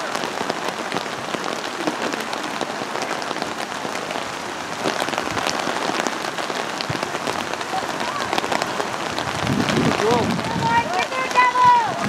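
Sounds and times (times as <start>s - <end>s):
raindrops ticking close: 0.0s - 12.0s
steady rain falling: 0.0s - 12.0s.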